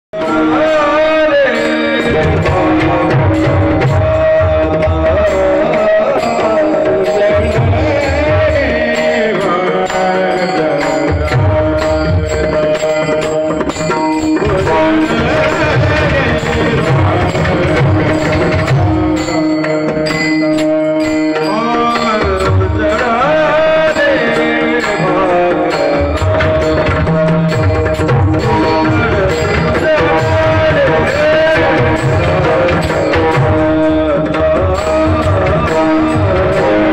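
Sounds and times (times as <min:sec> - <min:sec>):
drum beats: 0:00.1 - 0:36.9
devotional singing: 0:00.2 - 0:36.9
sustained accompanying notes: 0:00.2 - 0:36.9.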